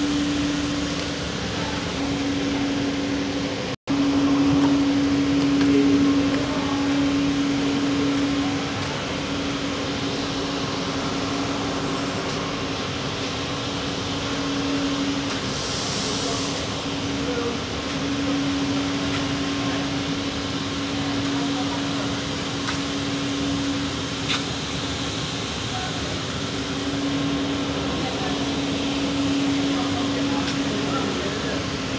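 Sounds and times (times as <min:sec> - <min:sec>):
constant machine tone: 0:00.0 - 0:31.9
packaging machinery humming: 0:00.0 - 0:31.9.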